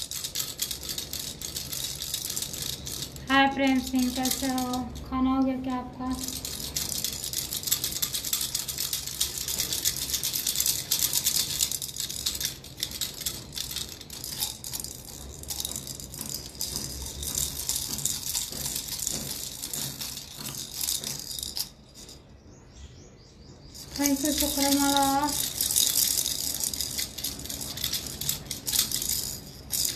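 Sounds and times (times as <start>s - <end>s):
plastic baby rattles shaken: 0.0s - 22.2s, 23.8s - 29.9s.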